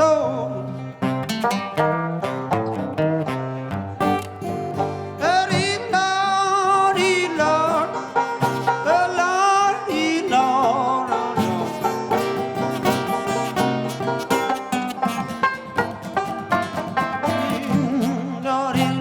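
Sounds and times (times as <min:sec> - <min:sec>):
acoustic blues on guitar and banjo: 0:00.0 - 0:19.0.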